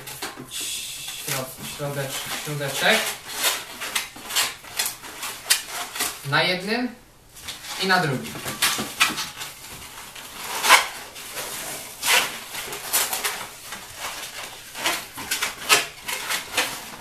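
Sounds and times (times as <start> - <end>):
balloons squeaking and rubbing: 0.0 - 6.3, 7.5 - 17.0.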